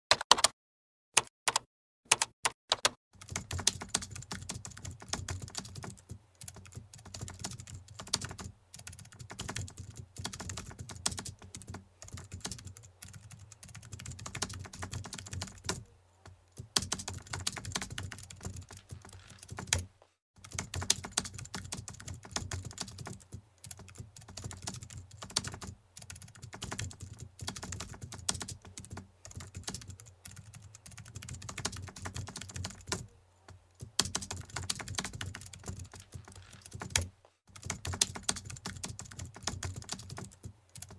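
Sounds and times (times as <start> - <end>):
computer keyboard typing: 0.1 - 0.5, 1.2 - 15.9, 16.5 - 40.9.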